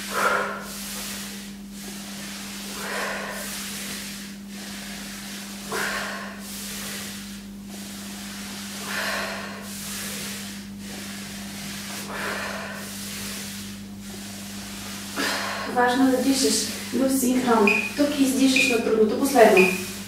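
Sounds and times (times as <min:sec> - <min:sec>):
towels rubbing over wooden floor: 0:00.0 - 0:20.0.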